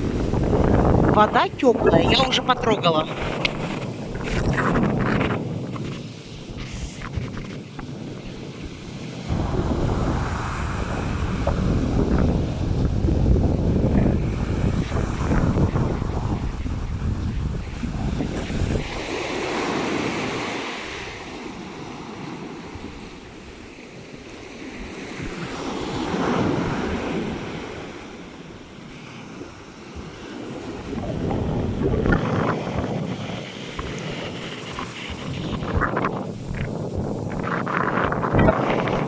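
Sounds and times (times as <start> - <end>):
sea surf breaking on beach: 0.0 - 39.0
wind buffeting microphone: 0.0 - 39.0.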